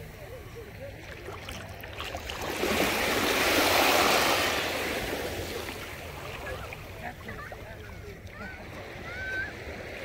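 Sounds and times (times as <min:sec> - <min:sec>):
wave washing over sand: 0:01.0 - 0:10.0.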